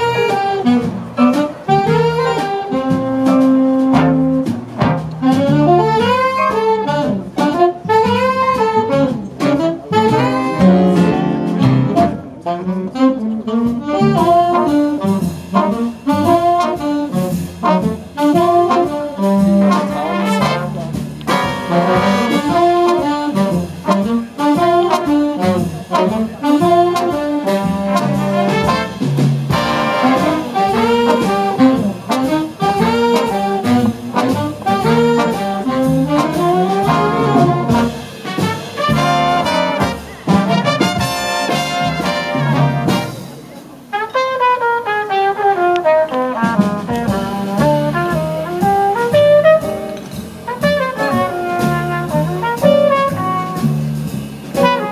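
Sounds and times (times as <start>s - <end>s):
jazz big band playing: 0.0s - 54.9s
upright double bass: 0.0s - 54.9s.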